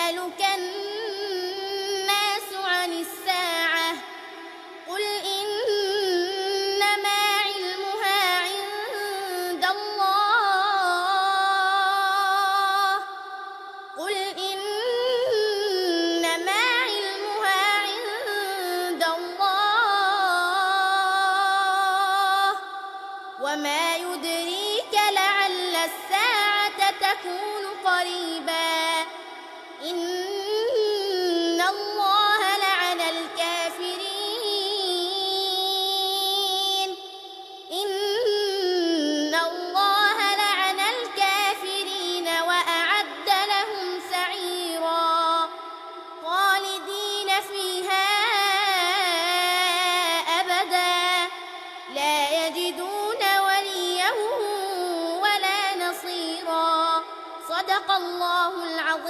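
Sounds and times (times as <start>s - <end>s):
girl reciting melodically: 0.0s - 59.0s.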